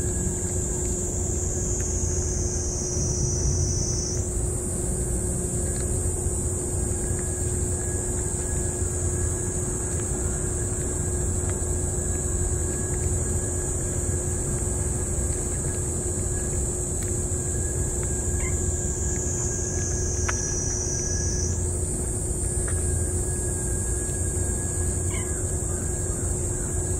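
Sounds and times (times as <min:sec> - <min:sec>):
constant hum: 0:00.0 - 0:26.9.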